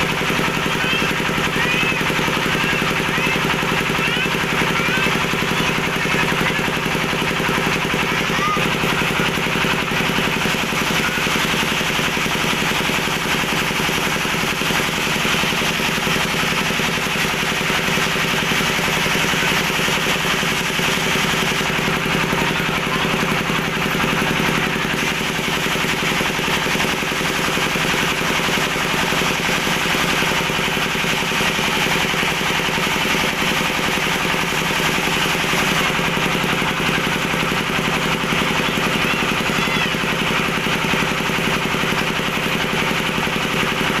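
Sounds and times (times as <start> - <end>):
steady mechanical drone: 0.0 - 44.0.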